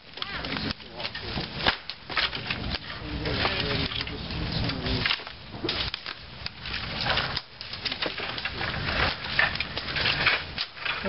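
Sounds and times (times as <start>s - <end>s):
twigs rustling: 0.0s - 11.0s
wood cracking and snapping: 0.0s - 11.0s.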